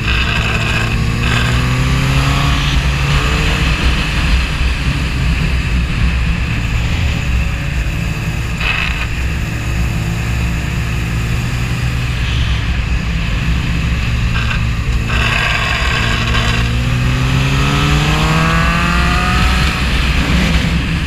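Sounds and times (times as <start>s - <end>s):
motorcycle engine accelerating: 0.0s - 21.0s
wind and road noise: 0.0s - 21.0s.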